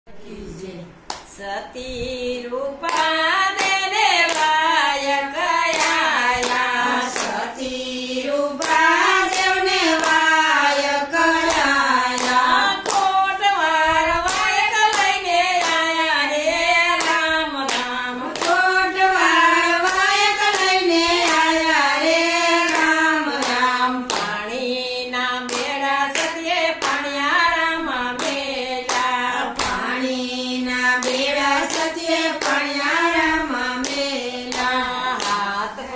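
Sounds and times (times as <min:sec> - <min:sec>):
women singing together: 0:00.1 - 0:35.9
hand claps: 0:02.8 - 0:07.5, 0:08.6 - 0:19.1, 0:19.8 - 0:24.5, 0:25.4 - 0:27.5, 0:28.2 - 0:35.6.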